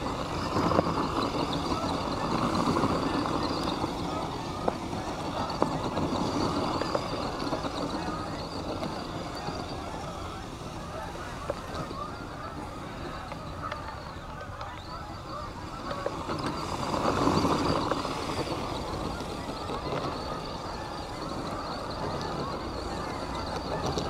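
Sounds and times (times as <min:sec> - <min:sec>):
rc truck motor running: 0:00.0 - 0:24.0
tyres churning through snow: 0:00.0 - 0:24.0.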